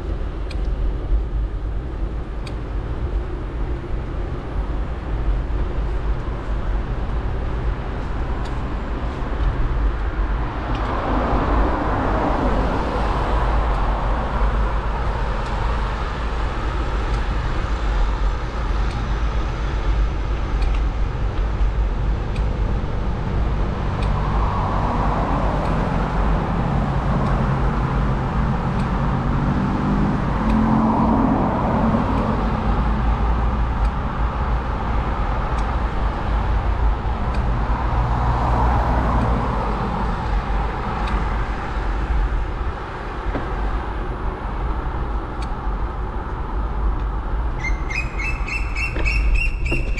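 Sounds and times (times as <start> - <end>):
road noise: 0.0 - 49.9
wind rumble: 0.0 - 49.9
motor vehicles passing: 2.7 - 49.9.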